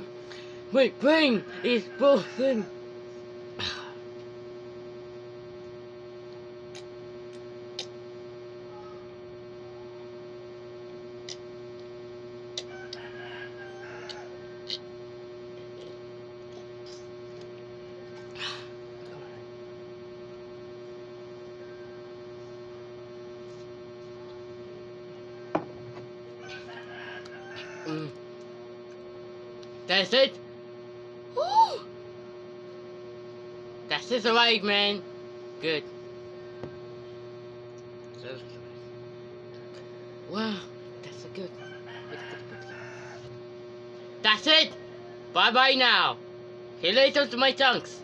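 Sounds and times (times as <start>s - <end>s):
electrical hum: 0.0s - 48.0s.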